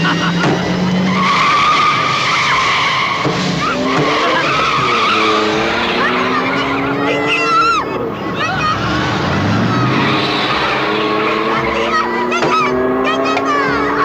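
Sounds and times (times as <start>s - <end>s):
car engine revving: 0.0s - 14.0s
car tyres squealing: 0.0s - 14.0s.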